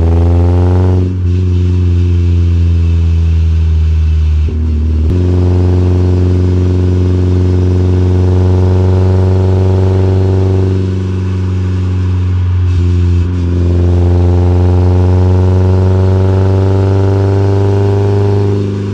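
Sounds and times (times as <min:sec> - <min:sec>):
car engine under load: 0:00.0 - 0:18.9.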